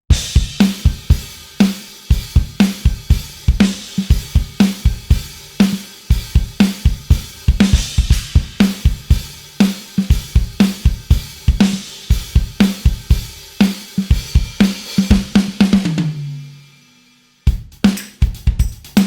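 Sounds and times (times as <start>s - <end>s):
drum kit playing a busy groove: 0.1s - 16.9s, 17.5s - 19.0s.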